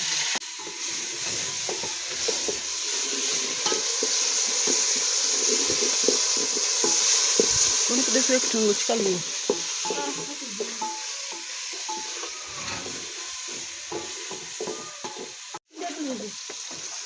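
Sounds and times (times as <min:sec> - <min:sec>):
food sizzling in hot oil: 0:00.0 - 0:17.0
stirring in a pot: 0:00.4 - 0:15.6.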